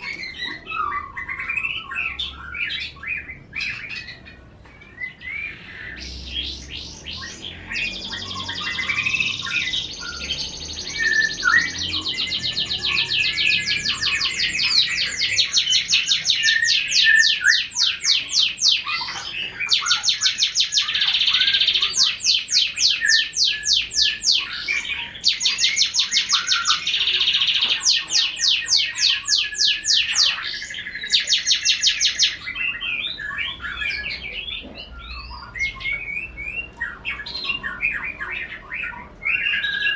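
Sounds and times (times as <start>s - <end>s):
bird chirping: 0.0s - 39.9s
canary singing: 0.0s - 39.9s.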